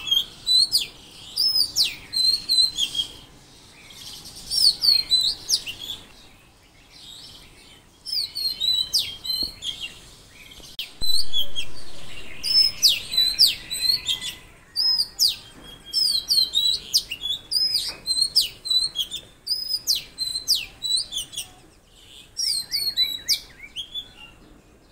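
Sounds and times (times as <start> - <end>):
songbirds singing: 0.0 - 24.9.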